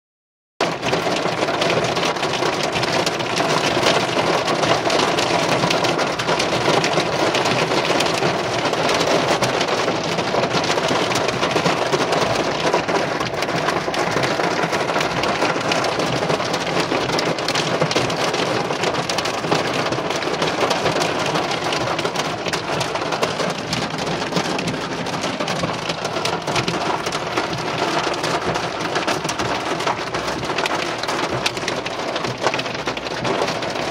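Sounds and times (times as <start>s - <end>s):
hail and rain on car roof: 0.6s - 33.9s.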